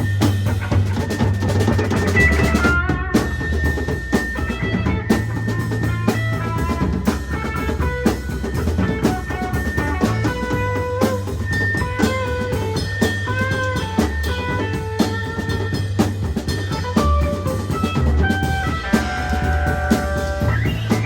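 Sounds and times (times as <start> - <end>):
drum kit beat: 0.0 - 21.0
sustained low bass: 0.0 - 21.0.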